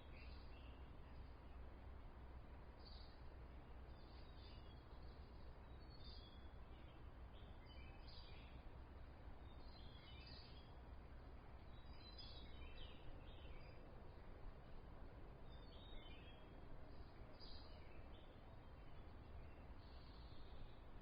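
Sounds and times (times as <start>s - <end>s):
low background hiss: 0.0s - 21.0s.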